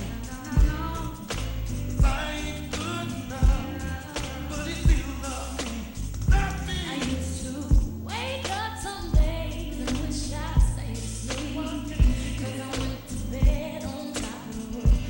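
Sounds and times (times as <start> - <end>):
deep bass hits: 0.0 - 14.0, 14.8 - 15.0
song with lead vocal: 0.0 - 15.0.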